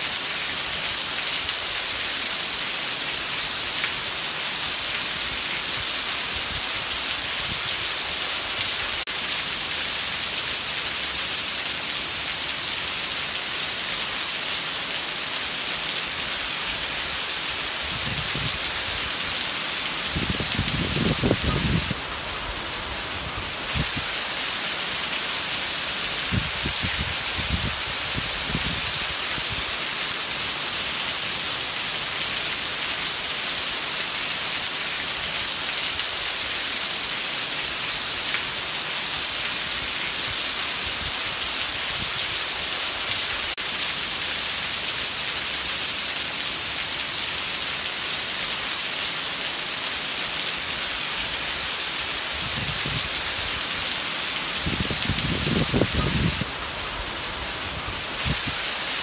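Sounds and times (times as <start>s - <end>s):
heavy rain on roof: 0.0s - 59.0s.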